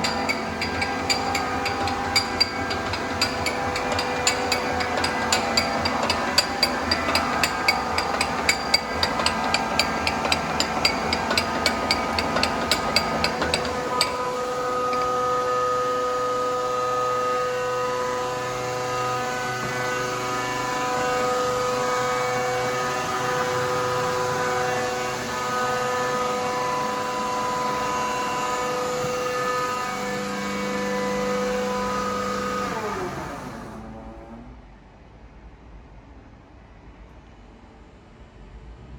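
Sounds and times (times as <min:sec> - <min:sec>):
lathe gearing whine: 0:00.0 - 0:34.3.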